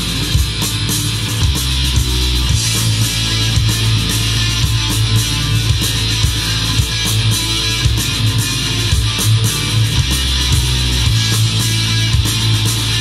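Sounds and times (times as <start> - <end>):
guitar rock music: 0.0 - 13.0.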